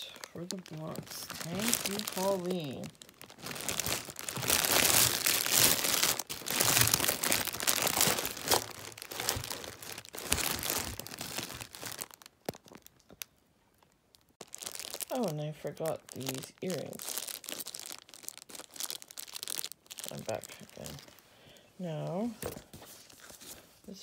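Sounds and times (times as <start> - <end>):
packaging crinkling: 0.0 - 21.2.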